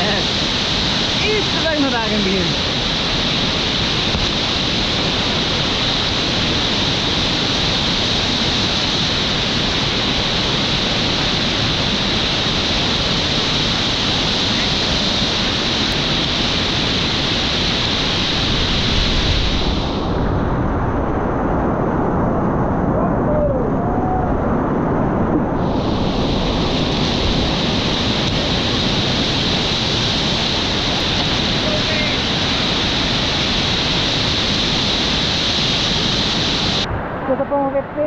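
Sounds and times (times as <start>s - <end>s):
whitewater rapids rushing: 0.0s - 20.2s, 25.6s - 36.9s.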